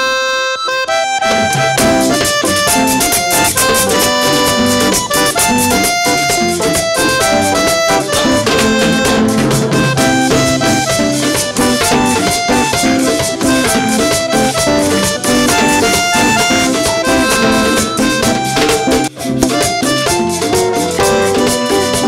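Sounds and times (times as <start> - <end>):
accordion melody: 0.0 - 22.0
brass: 0.0 - 22.0
electric bass: 0.8 - 22.0
drum kit beat: 1.2 - 22.0.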